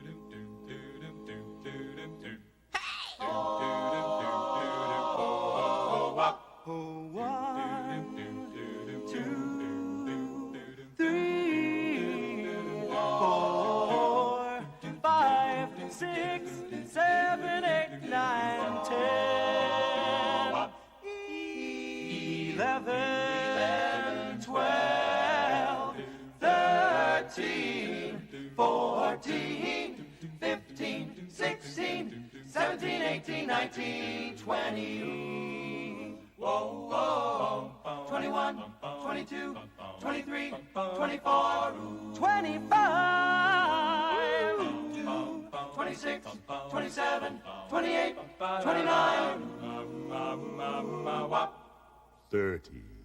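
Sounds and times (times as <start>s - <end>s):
male vocal group singing harmony: 0.0s - 52.0s.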